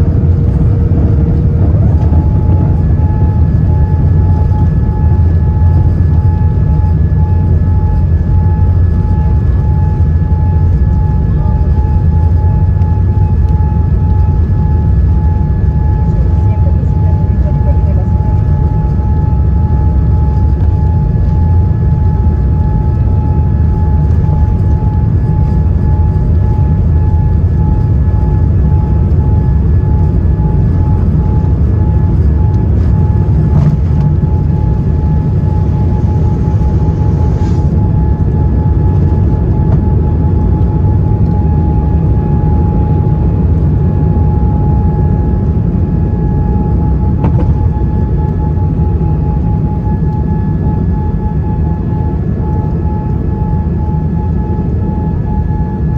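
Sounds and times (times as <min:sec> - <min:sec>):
jet engine rumble: 0:00.0 - 0:55.9
jet engine whine: 0:00.0 - 0:55.9.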